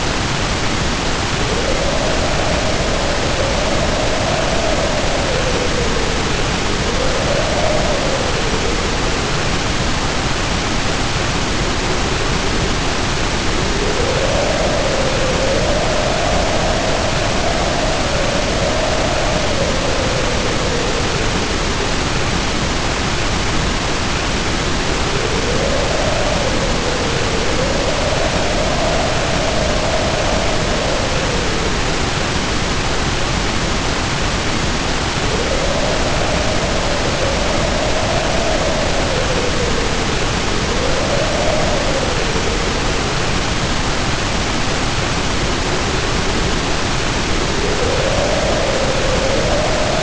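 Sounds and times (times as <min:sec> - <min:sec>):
heavy rain pouring: 0:00.0 - 0:50.0
wind howling in gusts: 0:00.0 - 0:50.0.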